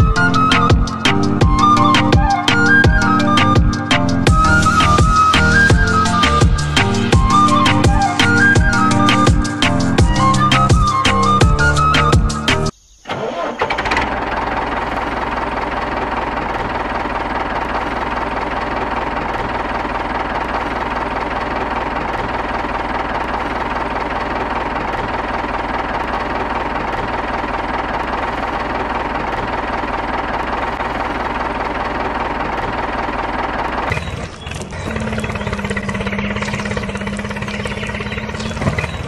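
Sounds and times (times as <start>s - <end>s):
engine running with knocking: 0.0s - 12.7s, 13.7s - 39.0s.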